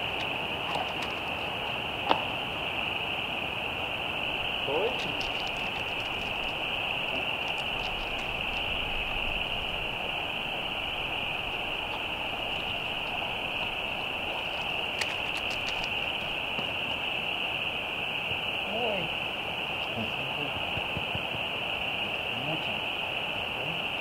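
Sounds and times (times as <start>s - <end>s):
background hiss: 0.0s - 24.0s
high-pitched hissing chorus: 0.0s - 24.0s.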